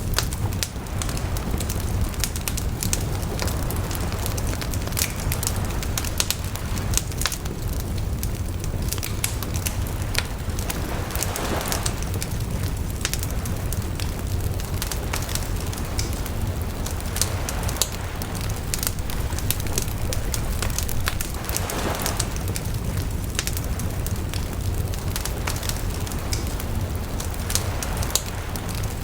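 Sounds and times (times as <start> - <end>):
fire crackling and popping: 0.0 - 29.0
low rumble of flames: 0.0 - 29.0
rush of flame: 0.0 - 29.0.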